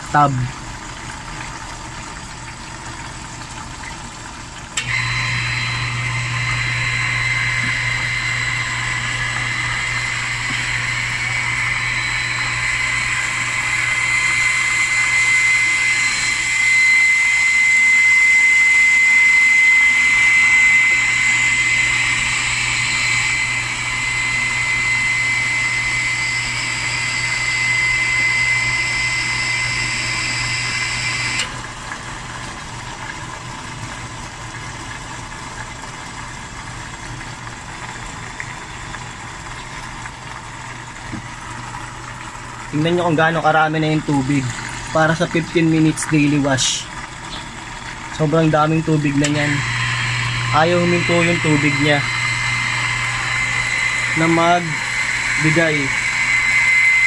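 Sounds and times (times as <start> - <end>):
water pump humming: 0.0 - 57.0
water rushing into washing machine: 0.0 - 57.0.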